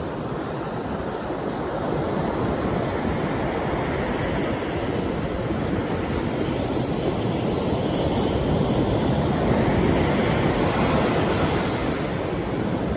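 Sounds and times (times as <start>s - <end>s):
ocean surf breaking on beach: 0.0s - 12.9s.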